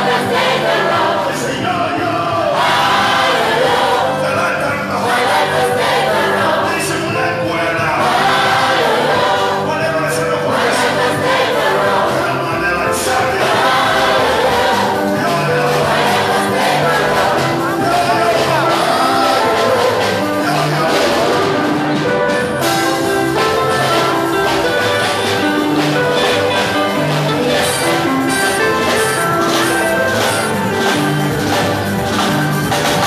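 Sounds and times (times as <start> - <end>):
congregation singing gospel song: 0.0 - 33.0.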